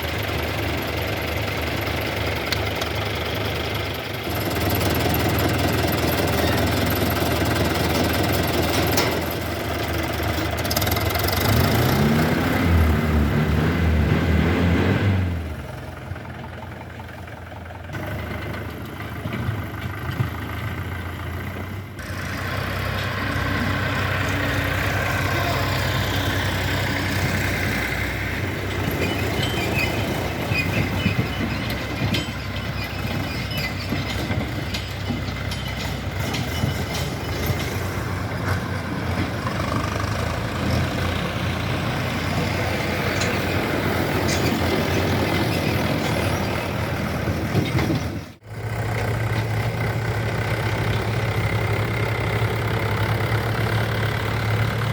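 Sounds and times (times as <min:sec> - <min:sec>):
diesel engines running: 0:00.0 - 0:54.9
clanks and rattles: 0:00.5 - 0:12.4, 0:15.7 - 0:21.8, 0:22.4 - 0:54.9.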